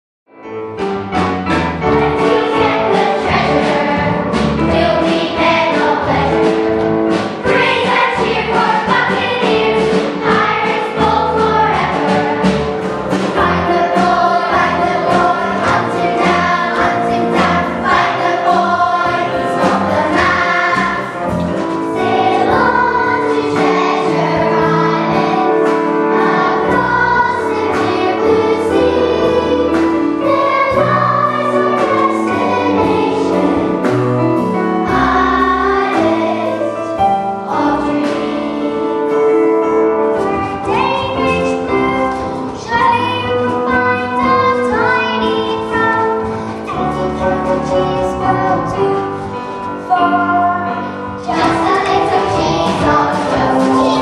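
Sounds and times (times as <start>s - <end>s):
instrumental accompaniment with beat: 0.5s - 54.0s
children's choir singing: 1.7s - 54.0s.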